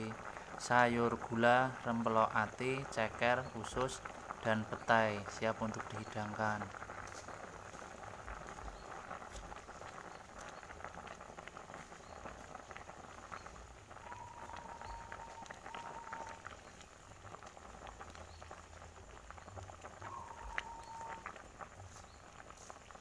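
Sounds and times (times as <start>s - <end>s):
broth boiling hard in a pot: 0.0s - 23.0s.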